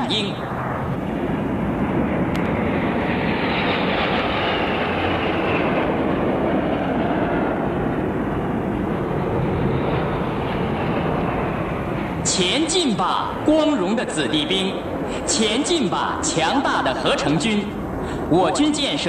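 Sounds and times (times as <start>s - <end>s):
jet aircraft roar: 0.0s - 19.0s.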